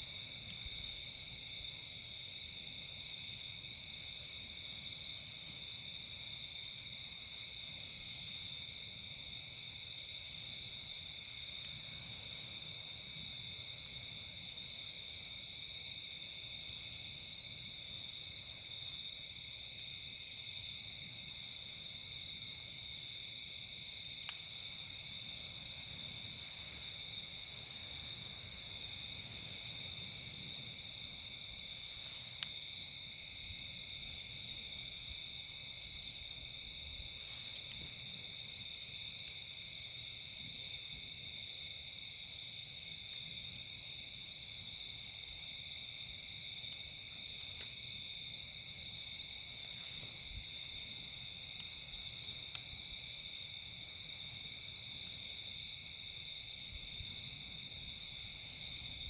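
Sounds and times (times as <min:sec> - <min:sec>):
insects chirring: 0:00.0 - 0:59.0
campfire popping: 0:06.4 - 0:54.4.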